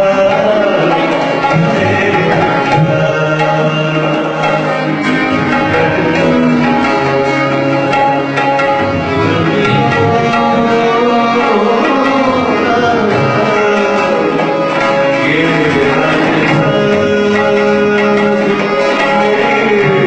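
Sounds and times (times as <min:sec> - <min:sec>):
held melodic instrument notes: 0:00.0 - 0:20.0
tabla playing: 0:00.0 - 0:20.0.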